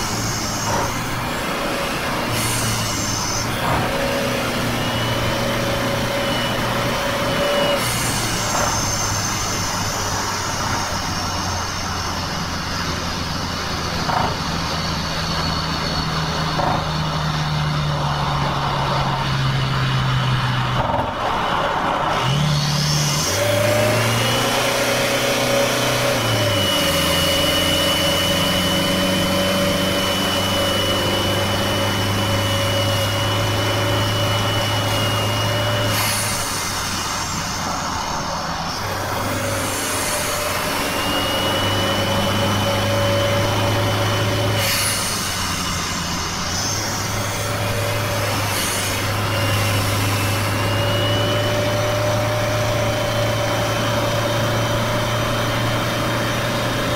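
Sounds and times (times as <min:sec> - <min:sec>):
thin high whine: 0:00.0 - 0:19.7, 0:25.8 - 0:56.9
car engine and tyre drone: 0:00.0 - 0:56.9.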